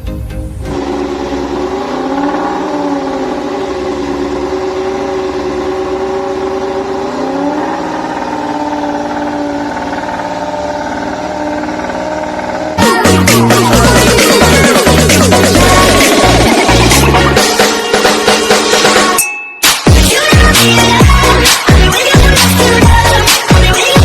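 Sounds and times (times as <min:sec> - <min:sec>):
racing motorcycle engine revving: 0:00.6 - 0:19.2, 0:19.9 - 0:24.0.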